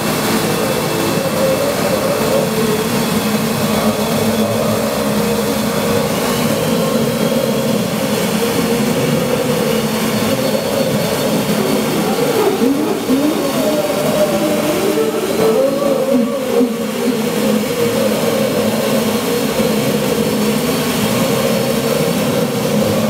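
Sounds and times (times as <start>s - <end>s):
electronic synthesizer drone: 0.0s - 23.0s.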